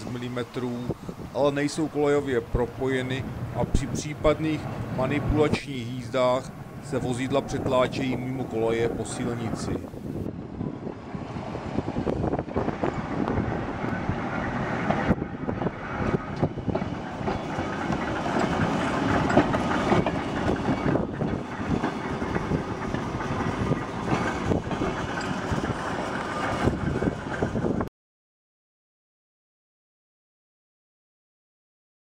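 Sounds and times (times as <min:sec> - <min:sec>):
tram wheels clacking over rails: 0:00.0 - 0:27.9.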